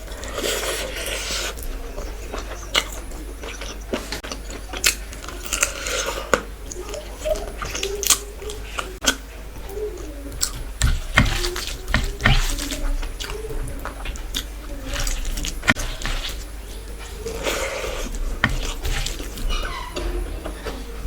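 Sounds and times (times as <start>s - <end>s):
chewing and wet smacking: 0.0s - 21.0s.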